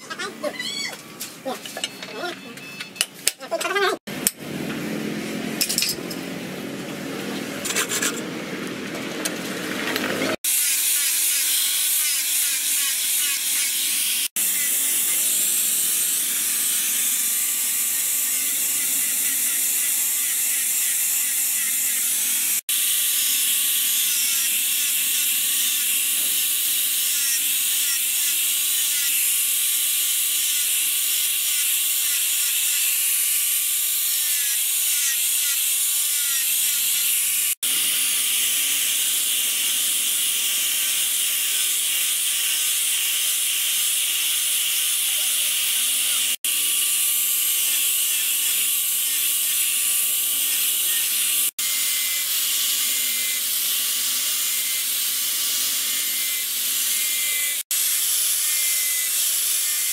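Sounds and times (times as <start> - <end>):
angle grinder sanding wood: 9.4 - 59.9.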